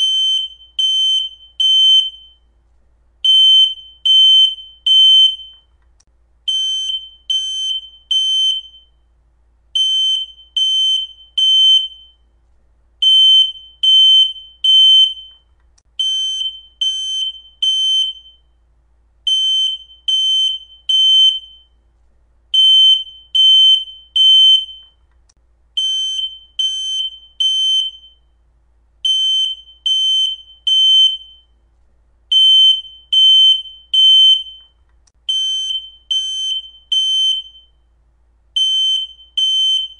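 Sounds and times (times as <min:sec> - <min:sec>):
smoke detector alarm beeps: 0:00.0 - 0:02.5, 0:03.2 - 0:05.8, 0:06.5 - 0:09.0, 0:09.8 - 0:12.3, 0:13.0 - 0:18.6, 0:19.3 - 0:21.8, 0:22.6 - 0:25.0, 0:25.8 - 0:28.3, 0:29.0 - 0:31.6, 0:32.3 - 0:37.9, 0:38.6 - 0:39.9.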